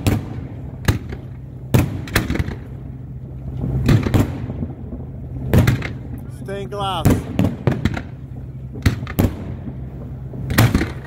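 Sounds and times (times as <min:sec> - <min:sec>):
boat engine low hum: 0:00.0 - 0:11.0
fireworks bursting with sharp bangs: 0:00.0 - 0:11.0.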